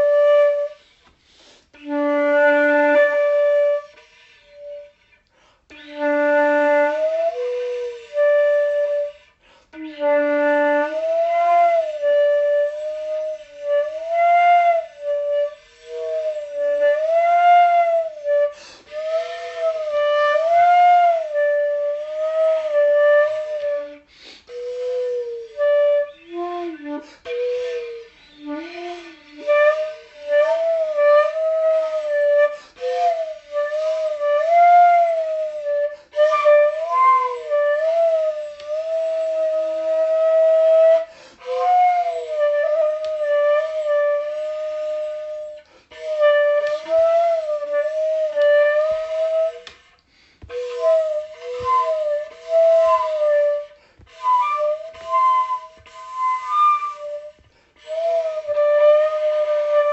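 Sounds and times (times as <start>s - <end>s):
solo flute melody: 0.0s - 59.9s.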